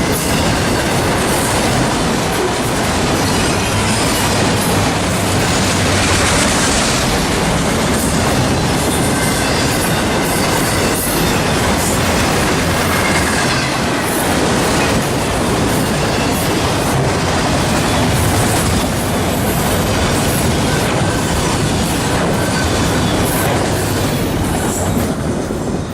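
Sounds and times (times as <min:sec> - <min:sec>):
train cars rolling past: 0:00.0 - 0:25.9.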